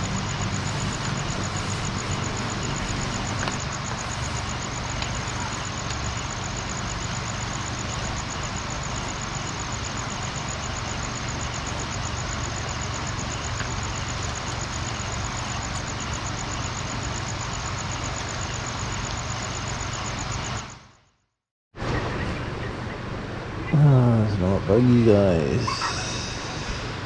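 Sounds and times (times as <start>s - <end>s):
night insects chirping: 0.0s - 21.4s, 22.0s - 27.0s.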